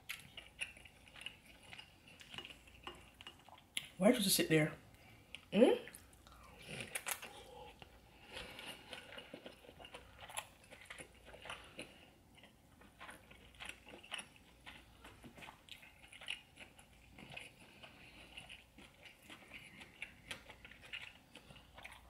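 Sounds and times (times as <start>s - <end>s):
close-miked chewing: 0.0s - 4.0s, 4.9s - 22.0s.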